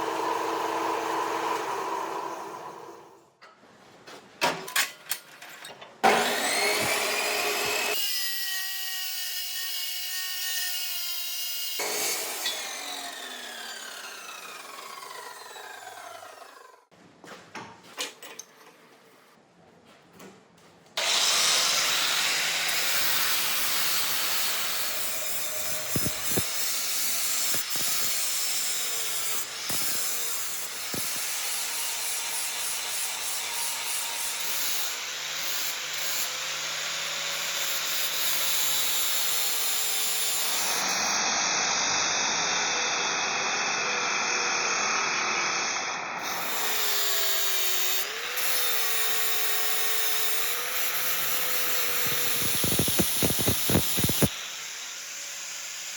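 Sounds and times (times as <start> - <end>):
power tool grinding steel: 6.0 - 16.8, 21.0 - 55.9.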